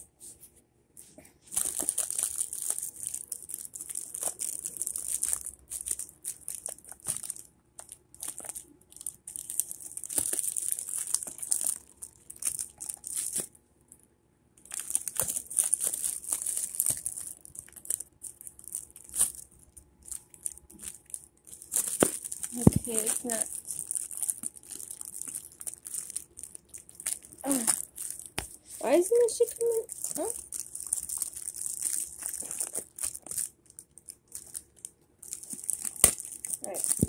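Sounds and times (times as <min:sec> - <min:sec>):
plastic sleeve crinkling: 0:01.4 - 0:13.6, 0:14.6 - 0:37.0.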